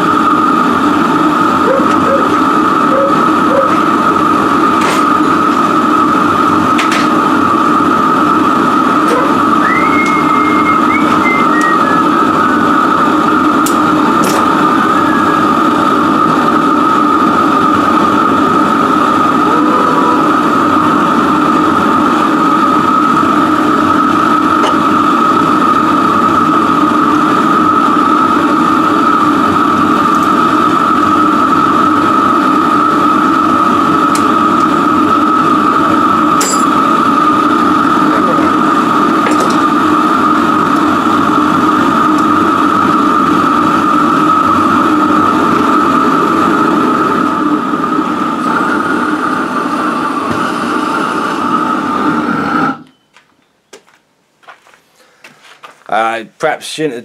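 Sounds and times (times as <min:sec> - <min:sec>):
gas burners rushing: 0:00.0 - 0:53.0.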